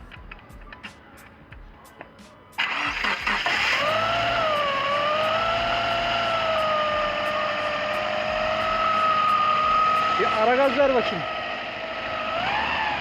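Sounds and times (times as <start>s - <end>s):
car engine cranking and idling: 0.0s - 13.0s
steady whine: 0.0s - 13.0s.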